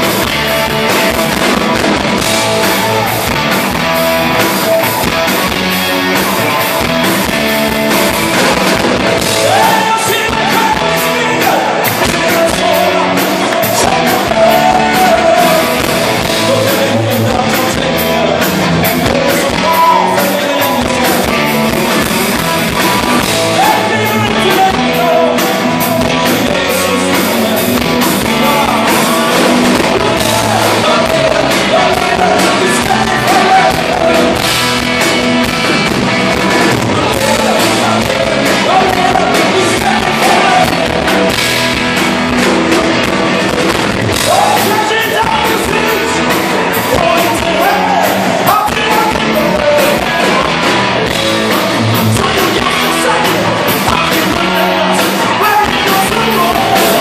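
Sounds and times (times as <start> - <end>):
live rock band playing: 0.0 - 57.0
lead vocal singing: 8.0 - 41.5, 43.9 - 57.0.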